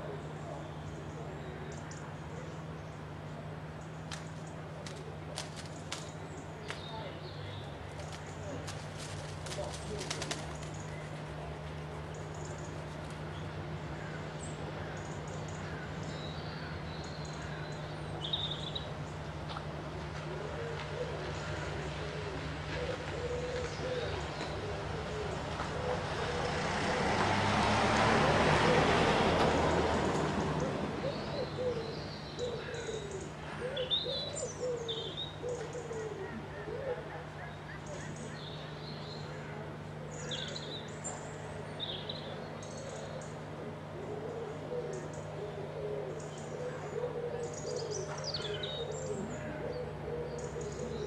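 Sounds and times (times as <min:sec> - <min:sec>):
low cooing bird calls: 0:00.0 - 0:19.3, 0:20.0 - 0:51.0
songbirds chirping and whistling: 0:00.0 - 0:26.6, 0:30.1 - 0:51.0.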